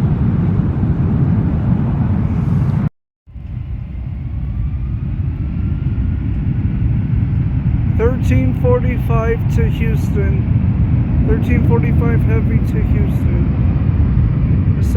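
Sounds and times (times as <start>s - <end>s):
jet airliner passing: 0.0s - 14.9s.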